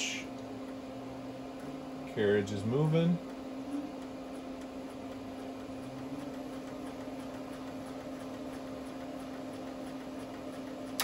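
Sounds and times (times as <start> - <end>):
stepper motor humming: 0.0 - 11.0.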